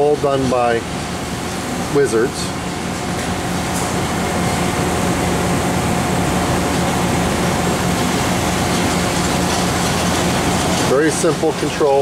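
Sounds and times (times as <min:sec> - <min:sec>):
mid-pitched whine: 0:00.0 - 0:12.0.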